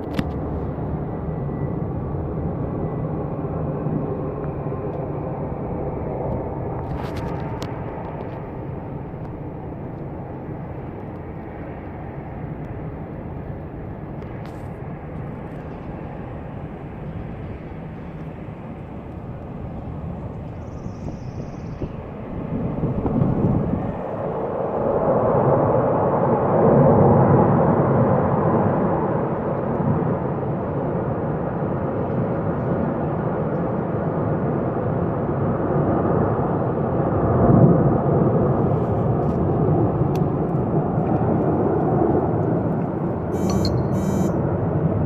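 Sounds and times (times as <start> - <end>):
military aircraft roar: 0.0 - 45.0.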